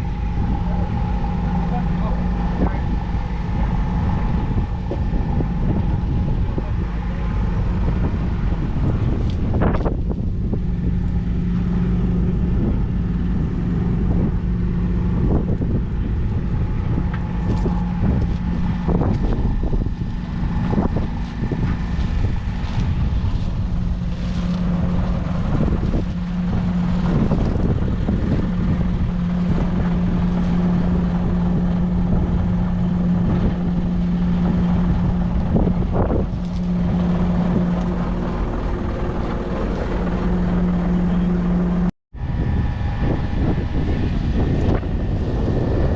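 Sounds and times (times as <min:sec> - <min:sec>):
diesel engine droning: 0:00.0 - 0:45.9.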